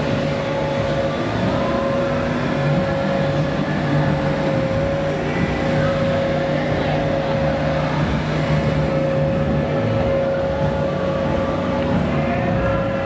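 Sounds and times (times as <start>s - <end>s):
machine drone with whine: 0.0s - 13.0s.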